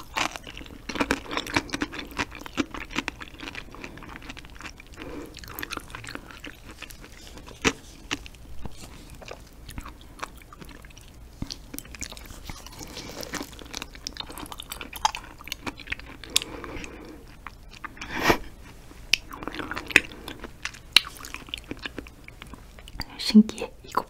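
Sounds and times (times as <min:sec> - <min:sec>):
wet chewing and lip smacking: 0:00.0 - 0:23.1.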